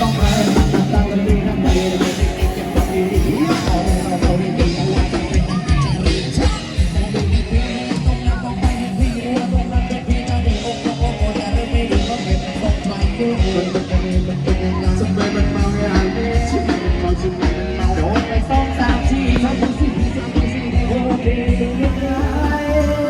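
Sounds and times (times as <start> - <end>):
person singing: 0.0 - 5.8, 6.4 - 23.0
heavy drum beat: 0.0 - 23.0
live band music: 0.0 - 23.0.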